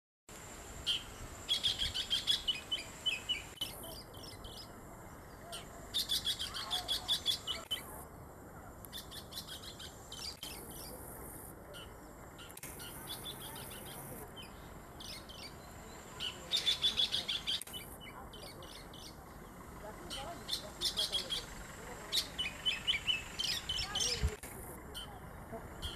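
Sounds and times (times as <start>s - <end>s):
bird singing: 0.8s - 25.9s.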